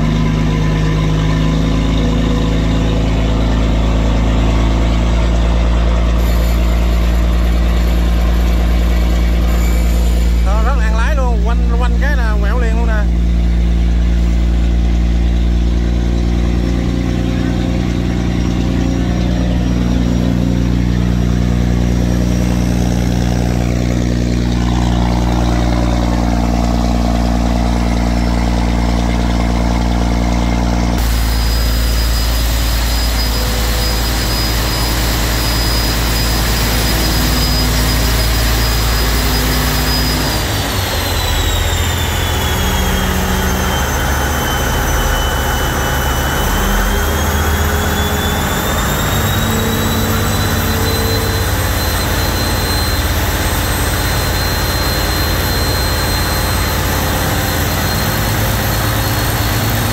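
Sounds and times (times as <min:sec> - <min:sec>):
barge engines running: 0:00.0 - 0:59.9
high steady whine: 0:00.0 - 0:59.9.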